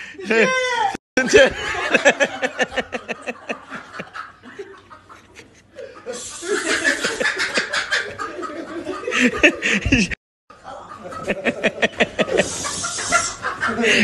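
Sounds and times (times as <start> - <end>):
people laughing: 0.0 - 14.0.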